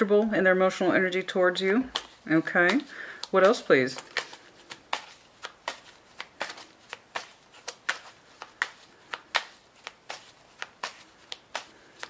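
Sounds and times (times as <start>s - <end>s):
cards being shuffled: 1.1s - 12.0s.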